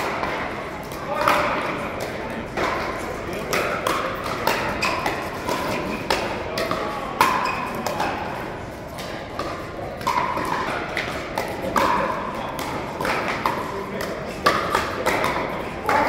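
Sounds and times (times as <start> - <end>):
paddles hitting plastic ball: 0.0 - 16.0.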